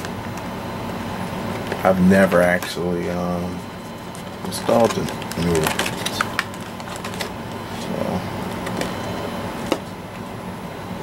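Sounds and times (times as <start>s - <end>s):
room tone hum: 0.0s - 11.0s.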